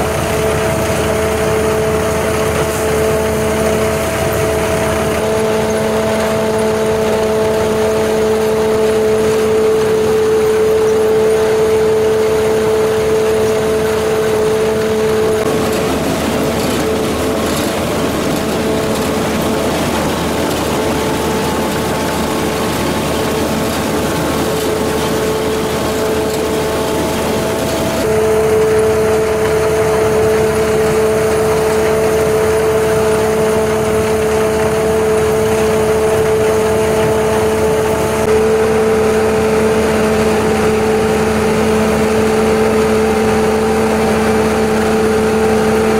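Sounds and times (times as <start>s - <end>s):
combine harvester humming: 0.0s - 45.9s
rough noisy rush: 0.0s - 45.9s.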